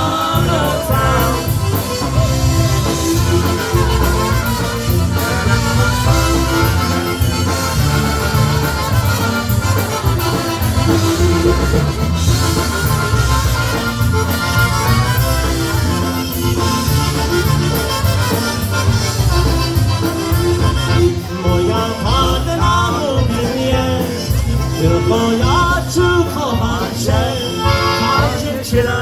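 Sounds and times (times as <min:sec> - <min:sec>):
polka band playing: 0:00.0 - 0:29.0
steady bass line: 0:00.0 - 0:29.0.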